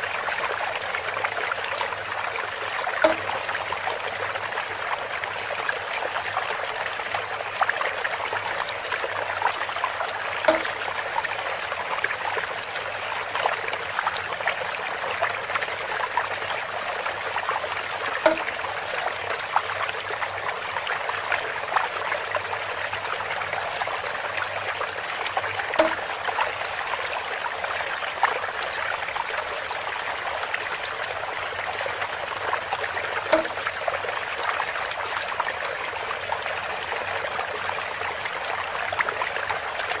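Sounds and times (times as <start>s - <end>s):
water trickling through bamboo spout: 0.0s - 40.0s.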